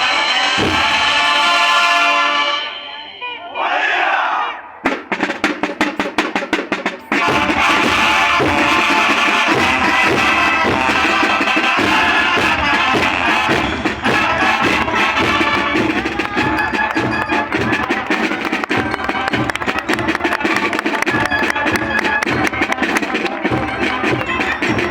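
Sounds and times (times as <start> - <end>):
marching band playing: 0.0 - 24.9
rapid drum strokes: 0.5 - 1.5, 4.9 - 24.9.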